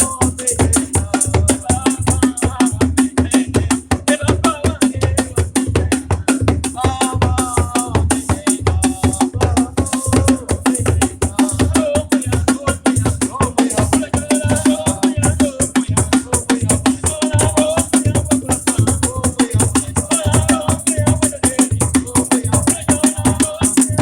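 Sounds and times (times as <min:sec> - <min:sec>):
shaker: 0:00.0 - 0:04.2, 0:06.2 - 0:24.0
driving drum beat: 0:00.0 - 0:24.0.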